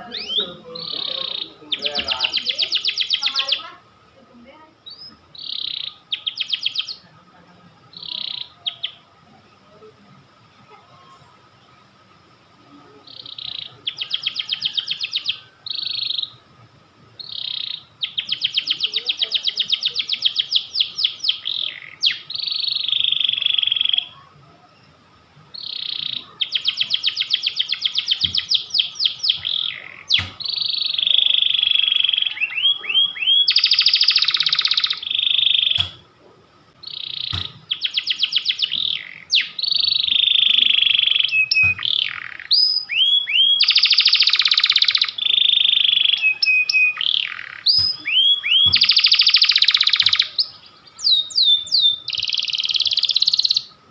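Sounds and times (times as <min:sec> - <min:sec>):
canary singing trills: 0:00.0 - 0:10.0, 0:11.0 - 0:53.9.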